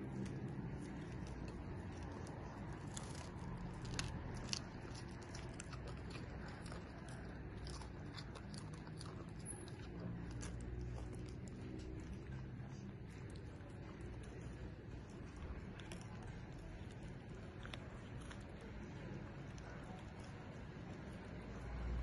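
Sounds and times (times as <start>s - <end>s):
dog chewing crunchy food: 0.0s - 21.0s.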